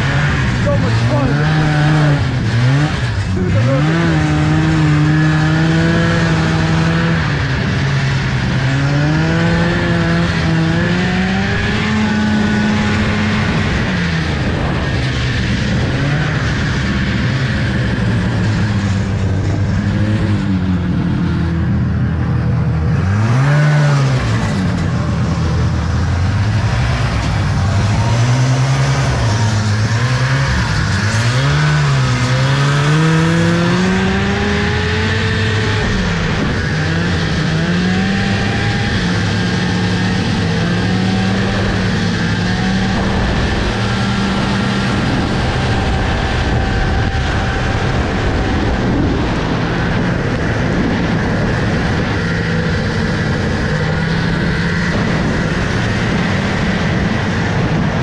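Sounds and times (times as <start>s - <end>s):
snowmobile two-stroke engine: 0.0s - 58.0s.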